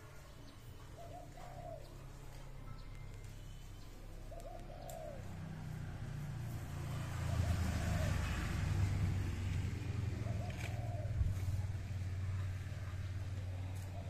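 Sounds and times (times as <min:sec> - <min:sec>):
dove cooing: 0:00.7 - 0:14.0.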